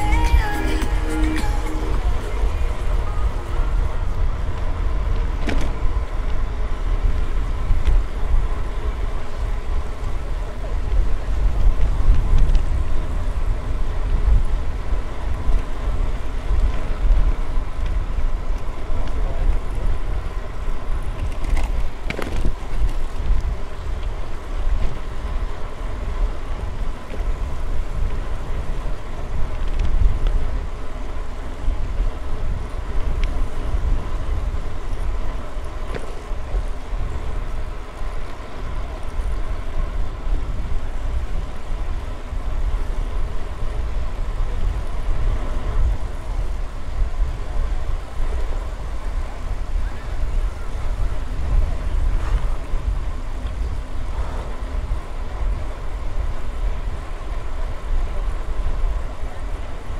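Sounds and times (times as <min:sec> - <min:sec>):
bicycle tyres rolling on pavement: 0:00.0 - 0:59.9
wind on microphone: 0:00.0 - 0:59.9.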